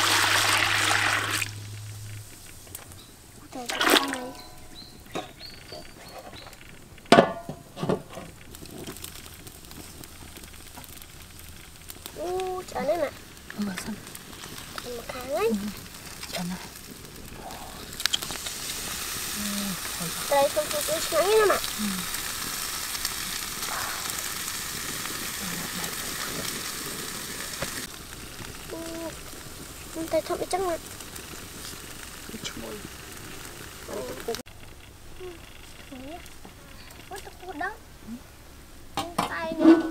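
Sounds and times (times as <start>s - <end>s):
fish sizzling on a grill: 0.0s - 39.9s
wood fire crackling: 0.0s - 39.9s.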